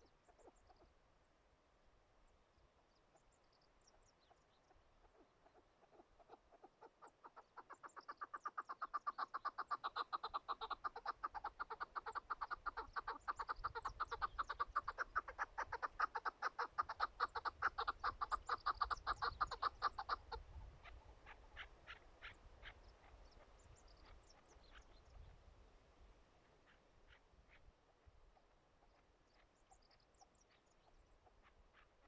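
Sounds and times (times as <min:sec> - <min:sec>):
partridge clucking calls: 0:00.0 - 0:00.9, 0:03.9 - 0:25.4, 0:26.4 - 0:32.0.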